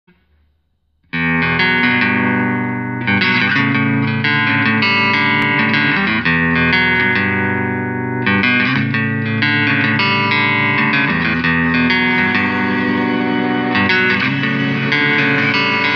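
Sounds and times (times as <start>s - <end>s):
electric guitar phrases: 1.1s - 15.9s.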